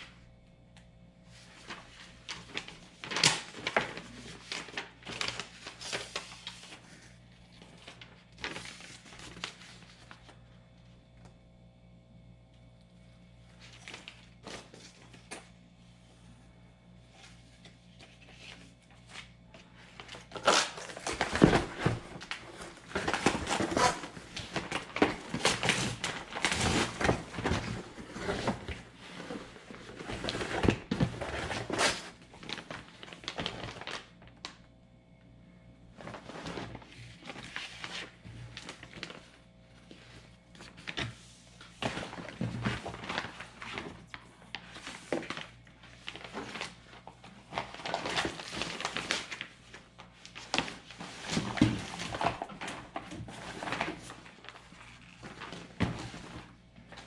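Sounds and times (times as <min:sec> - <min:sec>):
plastic bags crinkling: 0:01.5 - 0:10.4, 0:18.2 - 0:34.5, 0:36.0 - 0:57.0.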